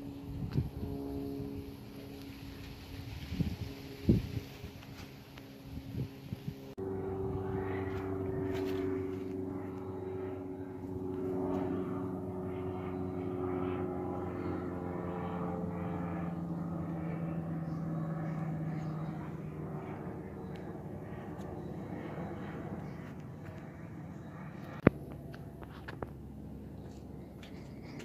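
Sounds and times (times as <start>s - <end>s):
propeller plane flying overhead: 0.0s - 28.0s.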